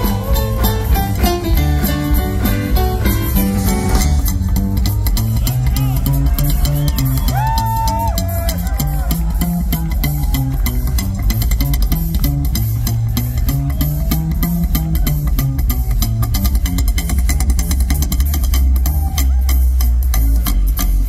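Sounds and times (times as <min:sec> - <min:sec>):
rockabilly band playing: 0:00.0 - 0:21.0
upright bass walking line: 0:00.0 - 0:21.0.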